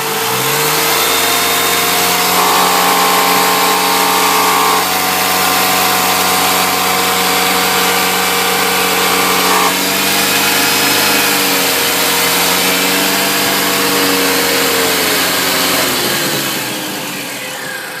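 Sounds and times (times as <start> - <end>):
supercharged engine revving: 0.0 - 18.0.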